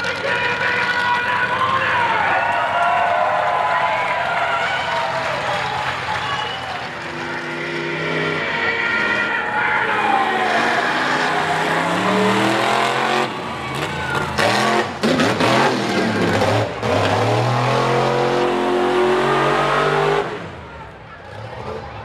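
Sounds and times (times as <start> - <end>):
truck engine revving hard: 0.0 - 22.0.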